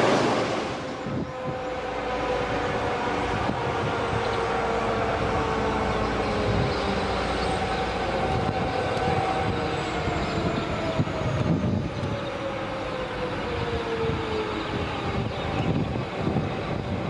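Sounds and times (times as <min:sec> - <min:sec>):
diesel locomotive engine: 0:00.0 - 0:17.0
train rumble: 0:00.0 - 0:17.0.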